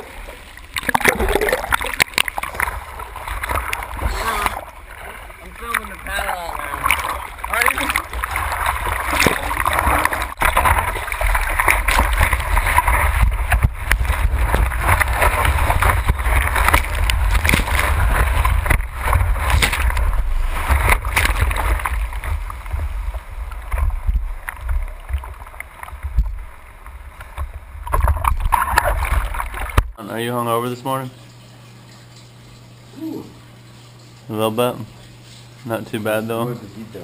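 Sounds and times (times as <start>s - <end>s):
whitewater splashing and churning: 0.0s - 30.0s.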